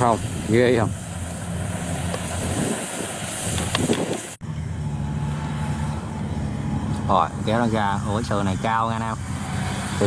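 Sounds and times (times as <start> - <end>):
combine harvester running: 0.0 - 10.0
low pitched engine hum: 0.0 - 10.0.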